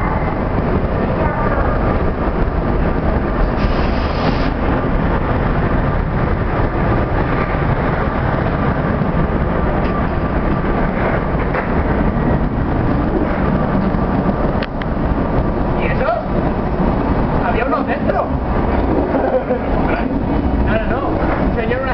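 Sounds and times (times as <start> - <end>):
electric train rumbling past: 0.0 - 21.9.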